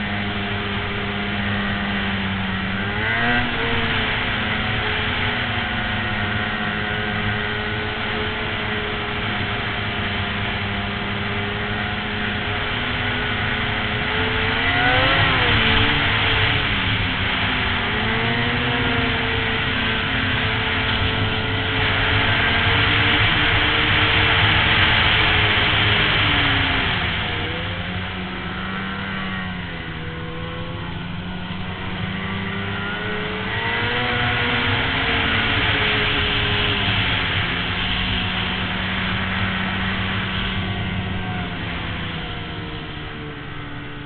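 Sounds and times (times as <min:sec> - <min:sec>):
hiss of track and wind: 0:00.0 - 0:44.0
snowmobile engine running: 0:00.0 - 0:44.0.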